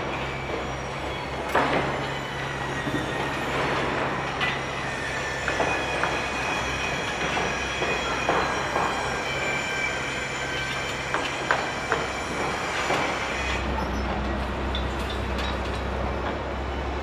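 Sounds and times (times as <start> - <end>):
heavy machinery humming: 0.0 - 17.0.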